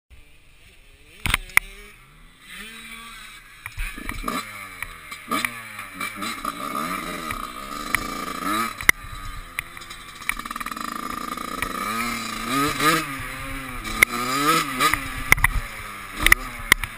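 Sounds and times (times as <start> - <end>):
dirt bike engine accelerating: 0.2 - 16.9.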